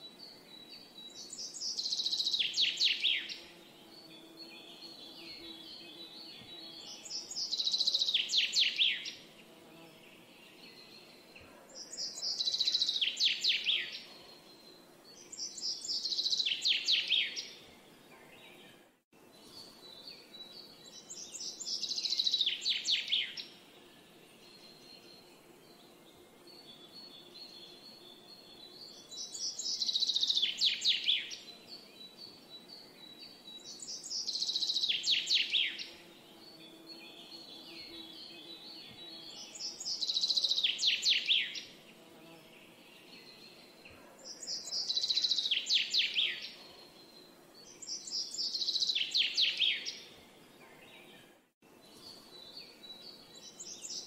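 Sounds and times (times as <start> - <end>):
outdoor background hiss: 0.0 - 54.0
songbird singing: 0.0 - 54.0.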